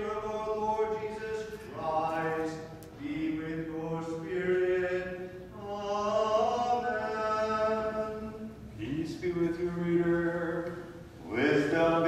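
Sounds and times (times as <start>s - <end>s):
person singing liturgical chant: 0.0s - 12.0s.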